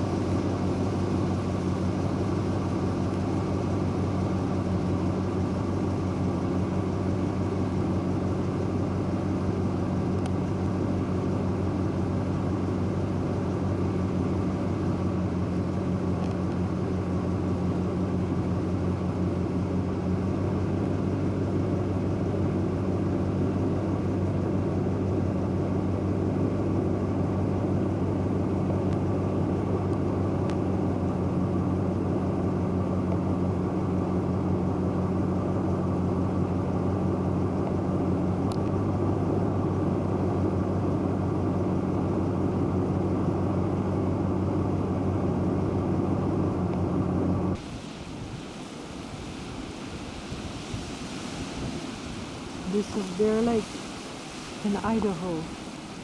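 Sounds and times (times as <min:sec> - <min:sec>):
road noise: 0:00.0 - 0:56.0
vehicle rumble: 0:00.0 - 0:56.0.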